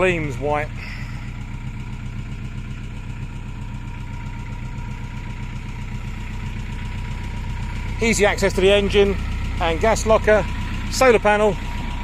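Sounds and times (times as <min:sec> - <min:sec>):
diesel boat engine idling: 0:00.0 - 0:12.0.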